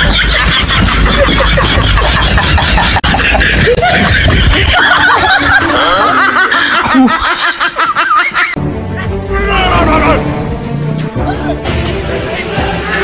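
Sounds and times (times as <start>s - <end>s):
people laughing: 0.0s - 8.6s, 11.1s - 13.0s.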